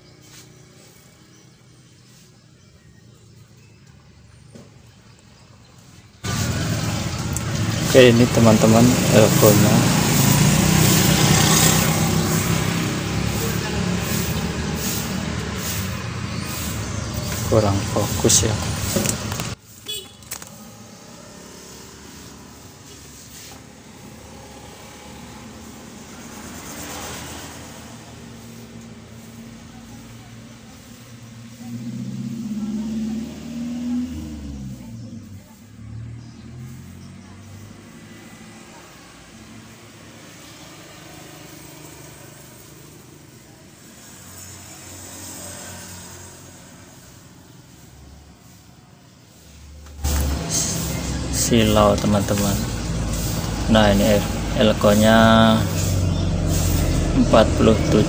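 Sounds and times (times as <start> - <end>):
traffic hum: 0.0 - 58.0
vehicle passing: 3.0 - 58.0.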